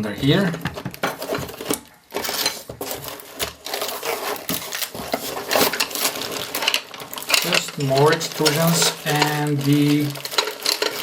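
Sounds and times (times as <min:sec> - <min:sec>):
hard parts clattering in a box: 0:00.3 - 0:11.0
metal parts clinking: 0:01.1 - 0:11.0.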